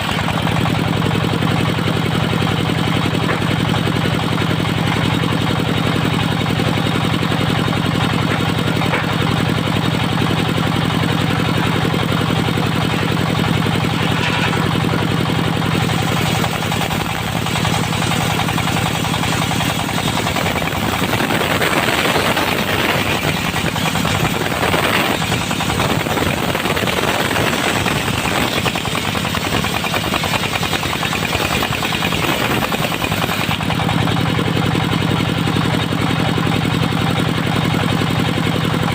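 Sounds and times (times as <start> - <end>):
circular sawmill engine running: 0.0 - 38.9.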